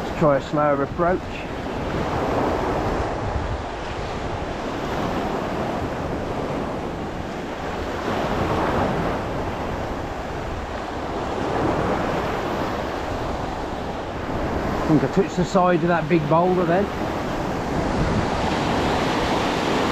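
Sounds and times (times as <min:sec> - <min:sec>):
surf breaking on shore: 0:00.0 - 0:19.9
wind buffeting microphone: 0:00.0 - 0:19.9.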